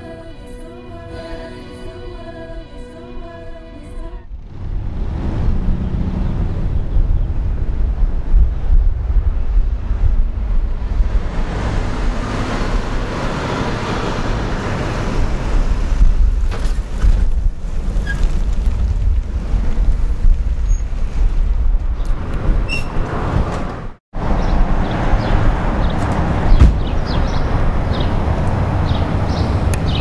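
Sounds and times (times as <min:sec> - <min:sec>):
road traffic passing: 0:00.0 - 0:18.7, 0:19.3 - 0:30.0
wind rumbling on microphone: 0:04.2 - 0:30.0.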